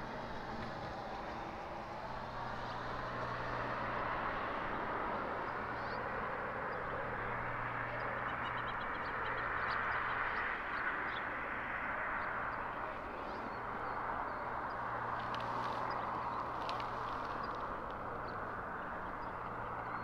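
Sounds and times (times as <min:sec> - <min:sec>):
distant vehicle traffic: 0:00.0 - 0:20.0
low engine hum: 0:00.0 - 0:20.0.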